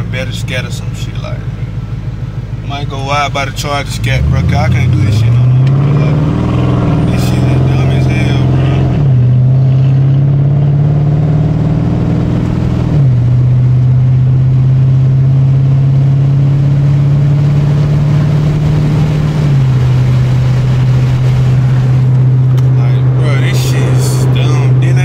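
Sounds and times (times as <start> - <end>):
car engine droning inside cabin: 0.0 - 25.0.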